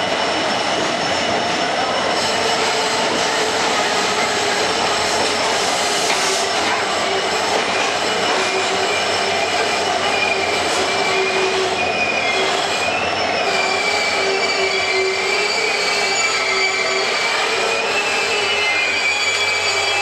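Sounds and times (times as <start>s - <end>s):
wheel squeal: 0.0s - 20.0s.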